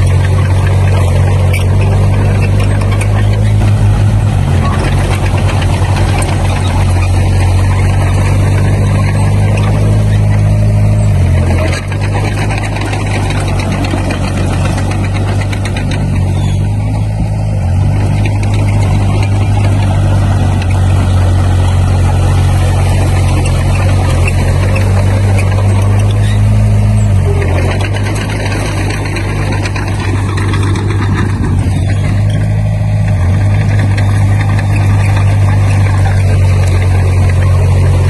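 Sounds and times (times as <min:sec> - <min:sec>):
diesel engine revving: 0:00.0 - 0:38.0
mechanical rumble: 0:00.0 - 0:38.0.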